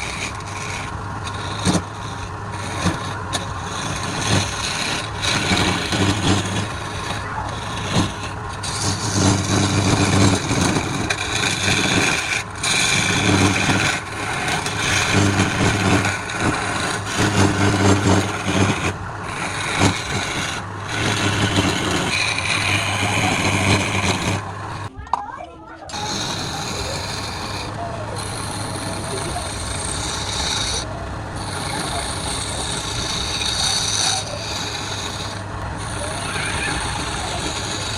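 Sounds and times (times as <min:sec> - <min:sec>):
lathe motor hum: 0:00.0 - 0:24.9, 0:25.8 - 0:37.9
turning tool scraping wood: 0:00.0 - 0:24.9, 0:25.7 - 0:37.9.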